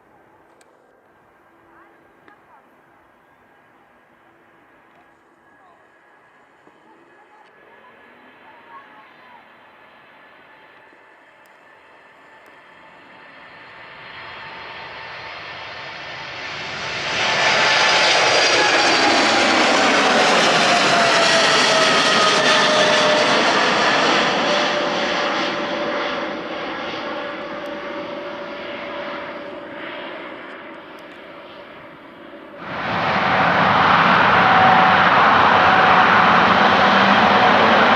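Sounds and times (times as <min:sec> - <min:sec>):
jet aircraft engines roaring past: 0:05.8 - 0:37.9.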